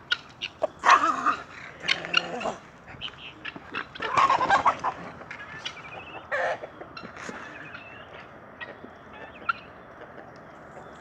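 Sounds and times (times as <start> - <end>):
farmyard animals calling: 0.0 - 10.2
clucks: 0.1 - 10.9.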